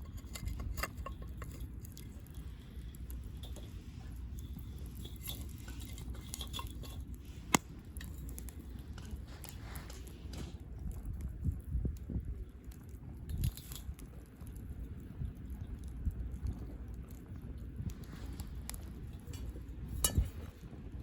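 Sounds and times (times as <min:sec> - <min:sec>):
campfire crackling and popping: 0:00.0 - 0:21.0
low steady rumble: 0:00.0 - 0:21.0.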